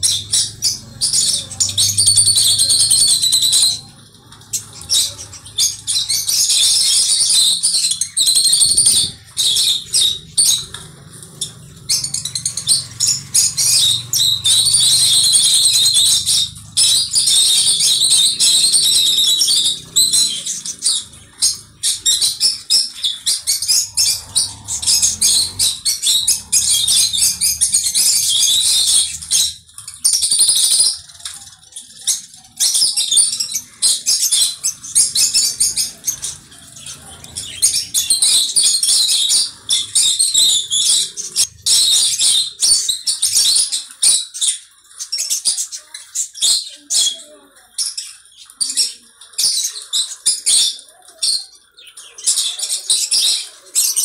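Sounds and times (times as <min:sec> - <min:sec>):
cage birds twittering: 0:00.0 - 0:54.0.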